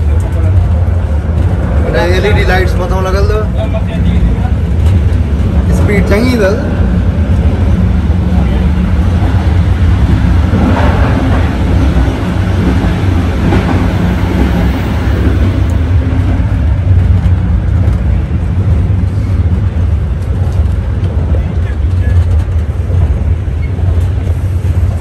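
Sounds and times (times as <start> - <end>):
train rumbling heard from inside: 0.0 - 25.0.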